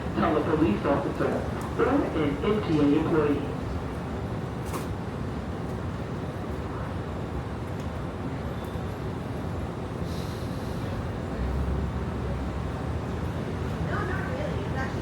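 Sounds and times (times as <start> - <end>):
low rumble of trains and traffic: 0.0 - 15.0.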